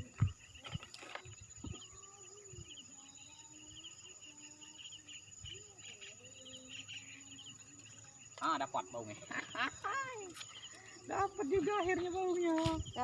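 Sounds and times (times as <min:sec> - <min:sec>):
crickets chirping: 0:00.0 - 0:13.0
high-pitched insect drone: 0:00.0 - 0:13.0.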